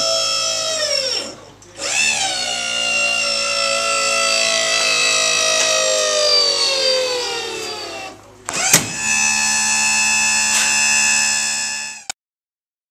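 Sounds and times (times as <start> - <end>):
electric pump motor whine: 0.0 - 12.1.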